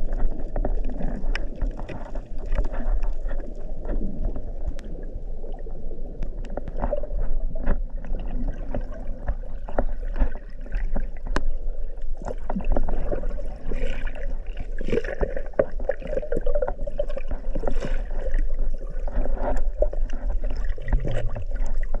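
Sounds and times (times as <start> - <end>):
water bubbling underwater: 0.0 - 22.0
water splashing and gurgling: 0.0 - 22.0.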